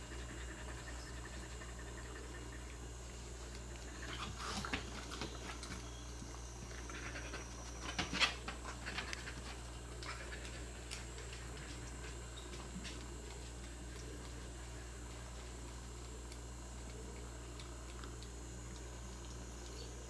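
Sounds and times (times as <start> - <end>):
cat chewing and licking: 0.0 - 20.0.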